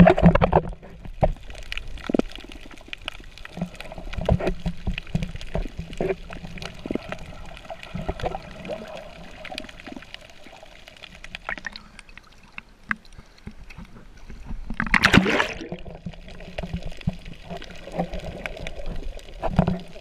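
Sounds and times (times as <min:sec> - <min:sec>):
rush of water: 0:00.0 - 0:20.0
water sloshing and splashing: 0:00.0 - 0:20.0.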